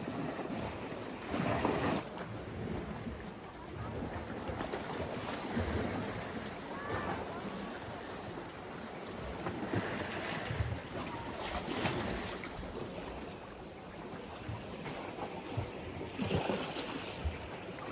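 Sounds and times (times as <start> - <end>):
small waves washing: 0.0 - 17.9.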